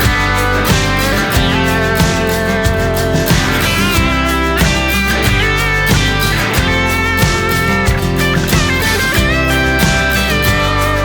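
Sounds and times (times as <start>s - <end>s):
instrumental pop music with guitar: 0.0s - 11.0s.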